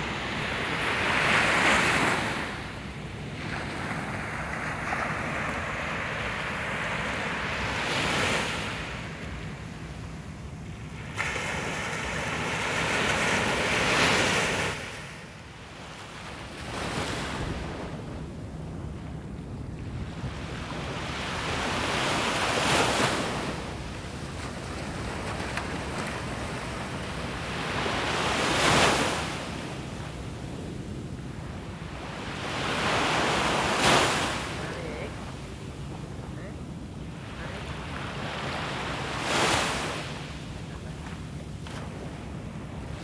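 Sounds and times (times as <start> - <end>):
small waves breaking on beach: 0.0 - 18.1, 19.8 - 43.0.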